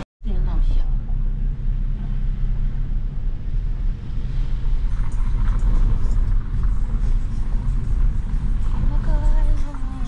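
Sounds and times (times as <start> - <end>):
car rumbling on the move: 0.2 - 10.0.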